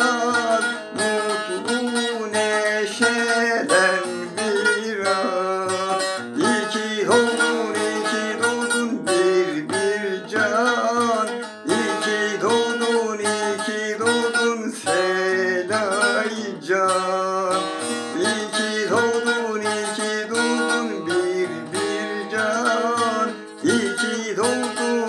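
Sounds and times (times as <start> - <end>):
long-necked lute strummed: 0.0 - 25.0
man singing folk song: 0.0 - 25.0.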